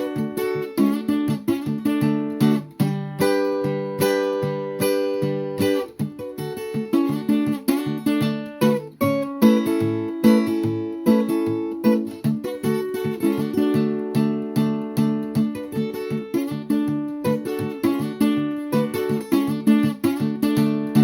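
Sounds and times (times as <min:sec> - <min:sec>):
acoustic guitar blues: 0:00.0 - 0:21.0.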